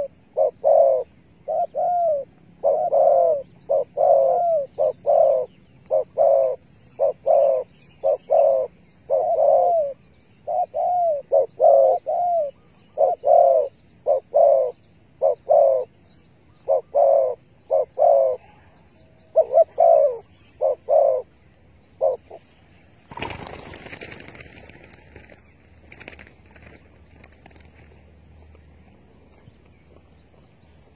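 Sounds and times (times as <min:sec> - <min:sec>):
dove cooing: 0:00.0 - 0:16.0, 0:16.6 - 0:27.8.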